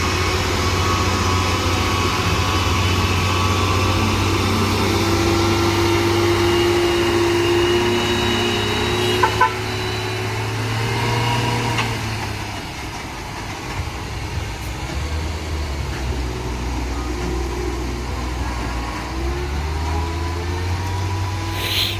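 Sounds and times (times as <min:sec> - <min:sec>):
heavy truck engine labouring: 0:00.0 - 0:21.9.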